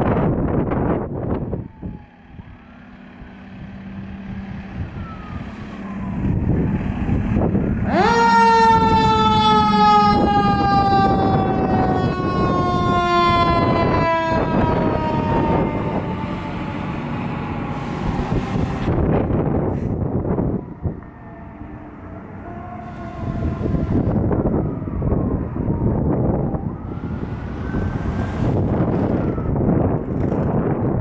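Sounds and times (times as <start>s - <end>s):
engine and road noise: 0.0s - 31.0s
fire truck siren wailing: 0.0s - 31.0s.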